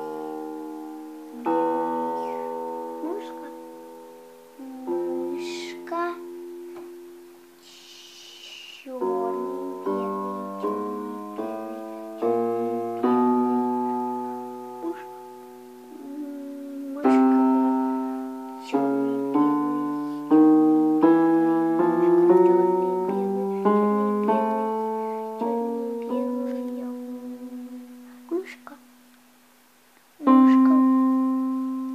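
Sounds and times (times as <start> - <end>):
electronic keyboard piano melody: 0.0 - 7.7, 8.9 - 28.8, 30.2 - 31.9.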